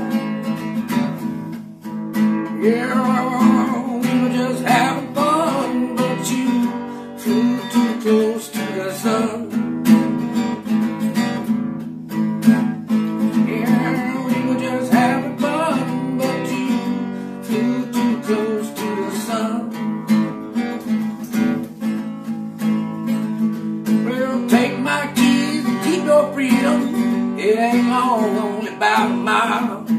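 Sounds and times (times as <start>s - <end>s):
acoustic guitar strumming: 0.0s - 29.9s.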